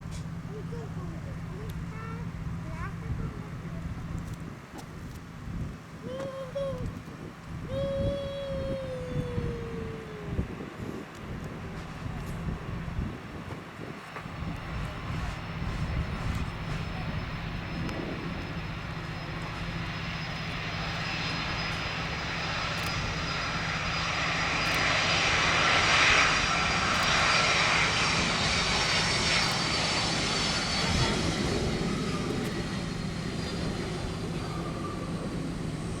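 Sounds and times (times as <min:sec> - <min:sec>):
jet airliner engines roaring: 0:00.1 - 0:36.0.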